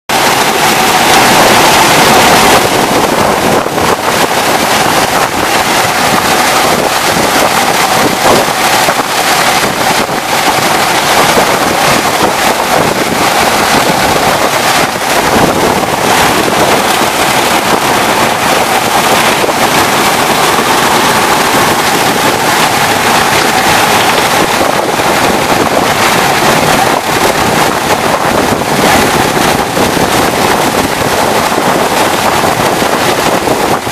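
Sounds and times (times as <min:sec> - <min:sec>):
cane machinery running: 0:00.1 - 0:33.9.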